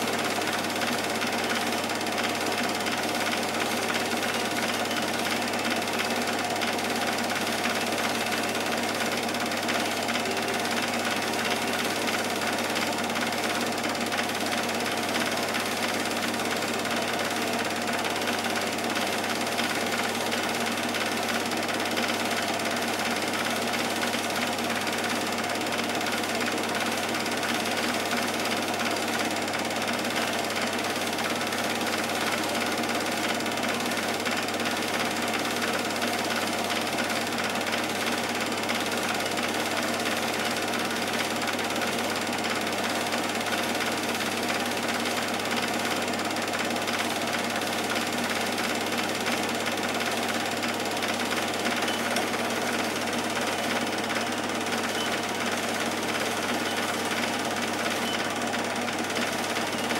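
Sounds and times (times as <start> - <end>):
film projector clattering: 0.0 - 59.9.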